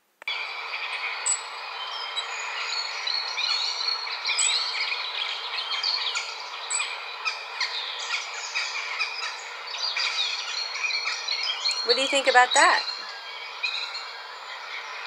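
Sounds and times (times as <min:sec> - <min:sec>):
recorded birdsong through speaker: 0:01.8 - 0:15.0.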